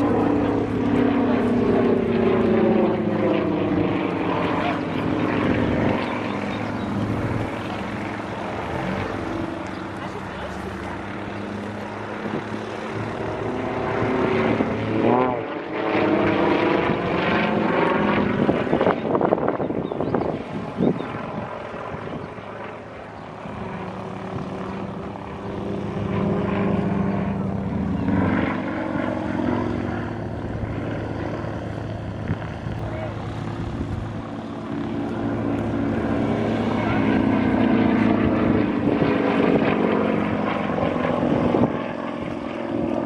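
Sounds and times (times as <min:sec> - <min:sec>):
propeller airplane flying past: 0:00.0 - 0:43.0.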